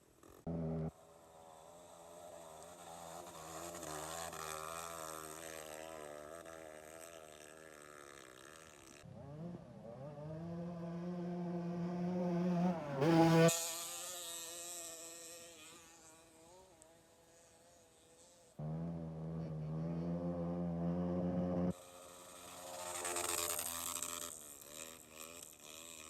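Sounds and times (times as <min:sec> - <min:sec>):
motorcycle engines idling: 0:00.0 - 0:13.0, 0:17.6 - 0:26.0
motorcycle engine revving: 0:00.0 - 0:26.0.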